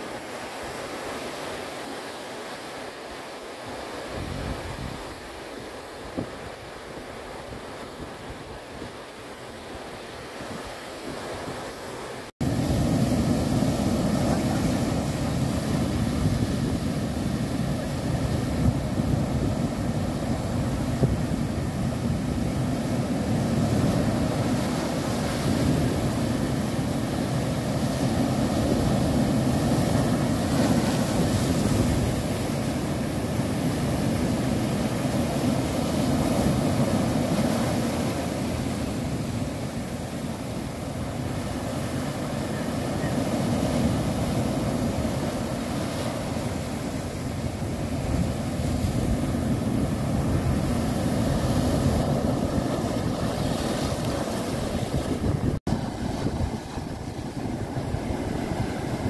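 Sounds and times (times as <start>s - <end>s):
waves breaking on rocky shore: 0.0s - 59.0s.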